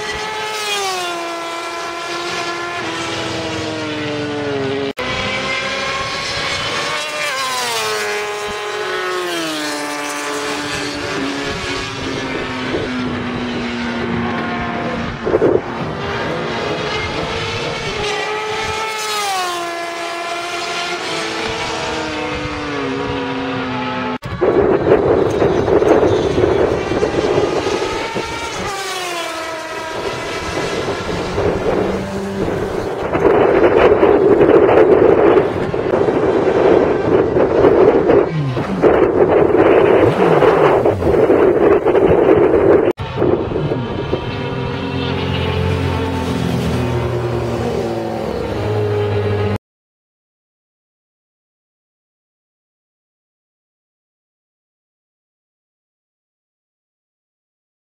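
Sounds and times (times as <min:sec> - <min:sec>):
motorcycle engine passing at high revs: 0:00.0 - 0:49.6.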